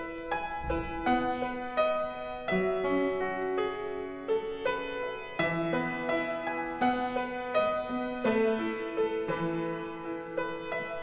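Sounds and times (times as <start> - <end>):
gentle piano piece: 0.0 - 11.0.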